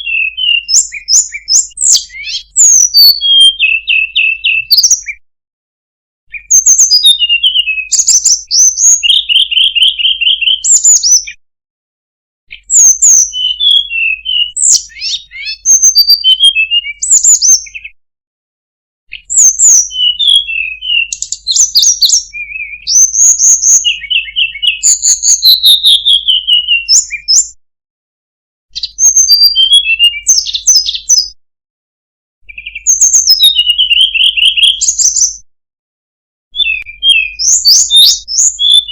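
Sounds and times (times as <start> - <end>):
bird warbling song: 0.0 - 5.2, 6.3 - 11.4, 12.5 - 18.0, 19.1 - 27.5, 28.8 - 31.3, 32.4 - 35.4, 36.5 - 38.9.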